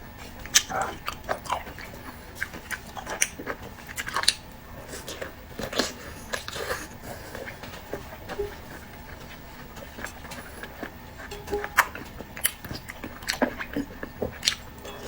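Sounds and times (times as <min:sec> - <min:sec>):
person biting and chewing food: 0:00.4 - 0:15.0.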